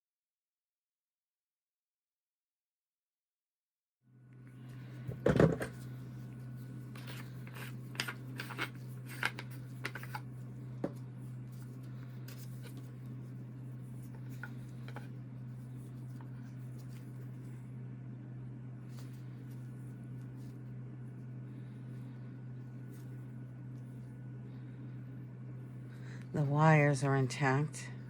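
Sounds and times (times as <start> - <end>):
steady low hum: 4.1 - 28.0.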